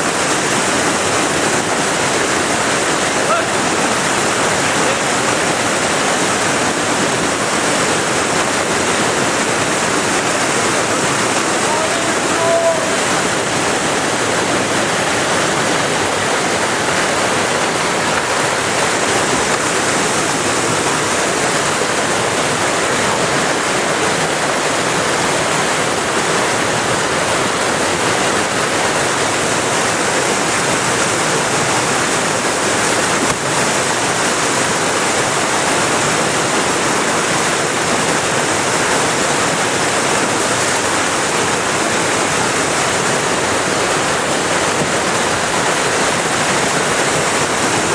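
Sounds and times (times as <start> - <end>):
whitewater rushing: 0.0 - 47.9.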